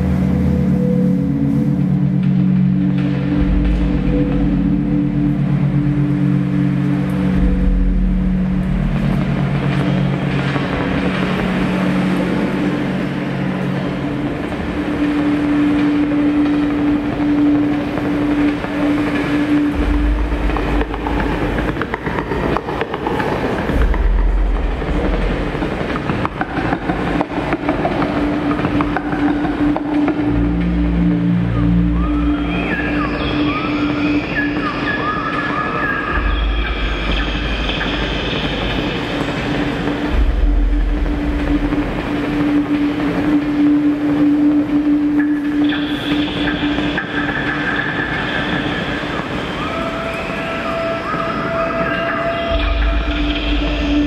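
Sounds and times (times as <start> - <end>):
deep bass swells: 0.0 - 34.8, 35.8 - 51.2
held low electronic tone: 0.0 - 54.0
rushing rumbling texture: 0.0 - 54.0.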